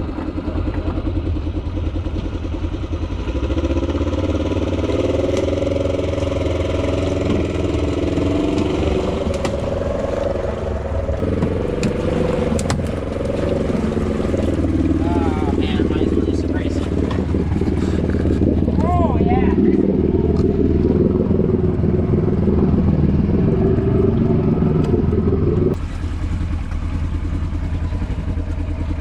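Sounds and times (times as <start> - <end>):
utility vehicle engine under throttle: 0.0 - 29.0.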